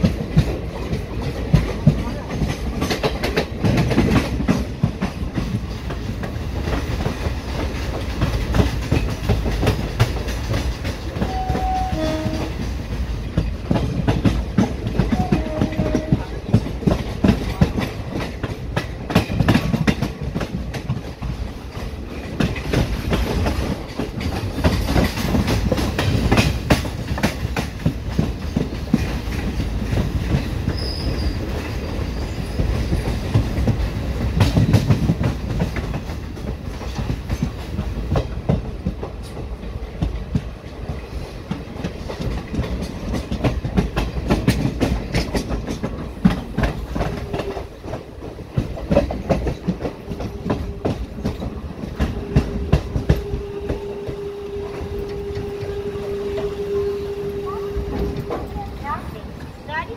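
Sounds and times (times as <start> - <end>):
train rumble: 0.0 - 59.9
wheels clacking over rail joints: 0.0 - 59.9.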